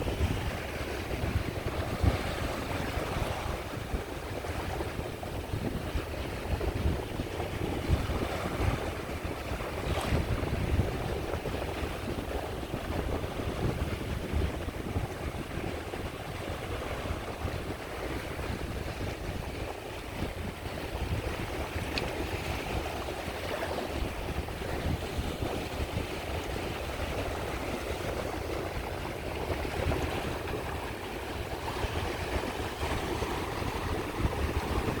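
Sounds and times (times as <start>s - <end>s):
sea waves washing onto shore: 0.0s - 35.0s.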